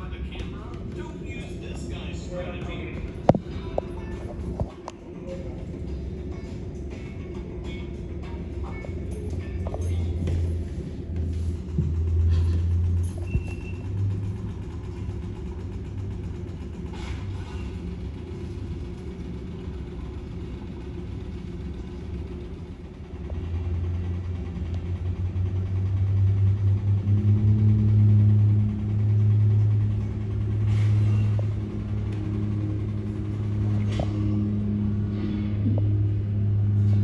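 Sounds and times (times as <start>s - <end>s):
engine rumble with hum: 0.0s - 37.0s.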